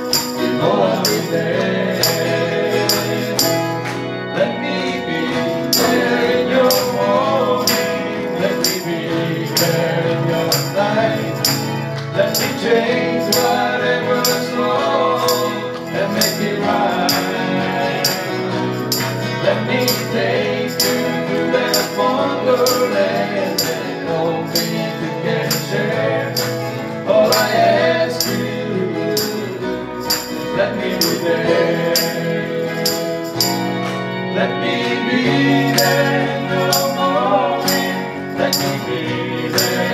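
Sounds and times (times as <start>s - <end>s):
jingling percussion beat: 0.0s - 3.9s, 5.4s - 34.0s, 35.4s - 39.9s
live band playing country-pop: 0.0s - 39.9s.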